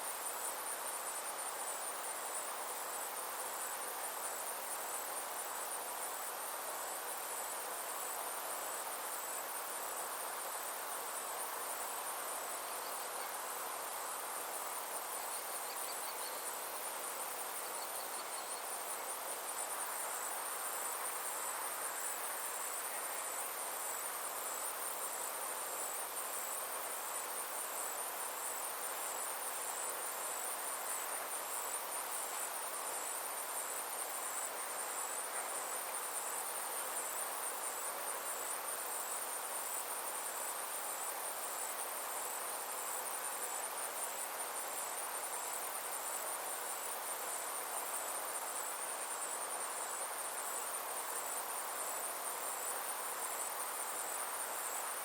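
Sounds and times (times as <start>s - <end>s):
soft hiss: 0.0s - 55.0s.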